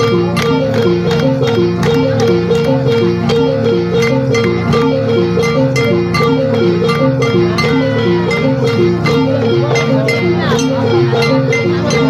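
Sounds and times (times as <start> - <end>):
plucked melodic notes: 0.0 - 12.0
steady percussive beat: 0.0 - 12.0.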